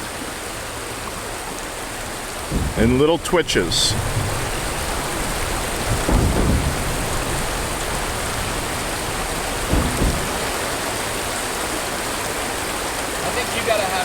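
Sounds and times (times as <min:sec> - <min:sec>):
river water over rocks: 0:00.0 - 0:14.0
low rumbles: 0:00.7 - 0:12.8.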